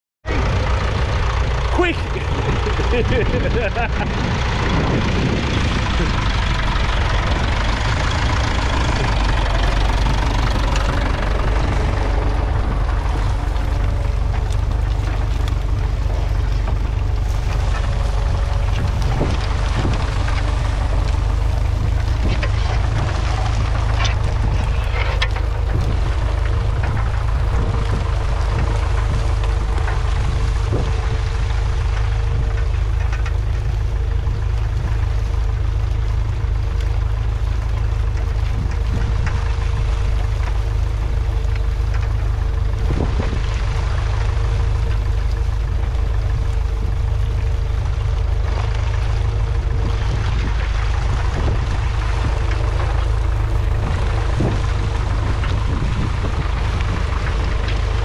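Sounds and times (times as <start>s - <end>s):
tractor diesel engine under load: 0.2s - 58.0s.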